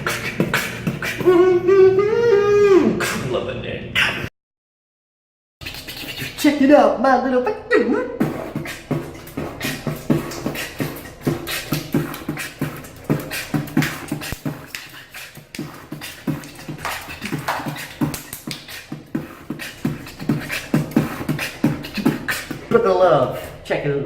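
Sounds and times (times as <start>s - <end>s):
beatboxing: 0.0s - 4.3s, 5.6s - 23.7s.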